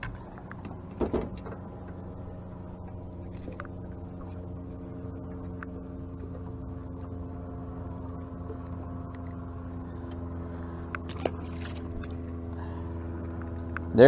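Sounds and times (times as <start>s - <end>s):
electric trolling motor humming: 0.0s - 14.0s.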